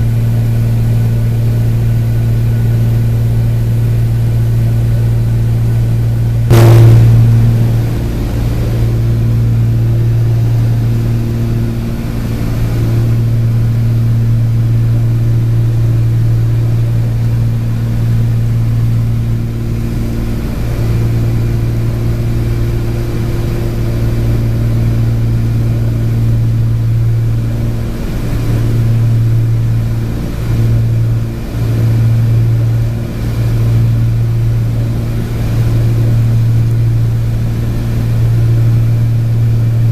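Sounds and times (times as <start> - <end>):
piston aircraft engines droning: 0.0 - 39.9.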